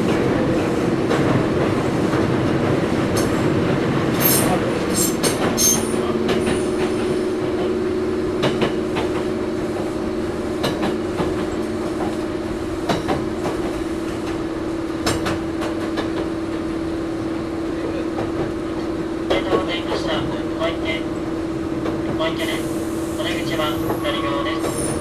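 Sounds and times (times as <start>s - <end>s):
train motor hum: 0.0s - 25.0s.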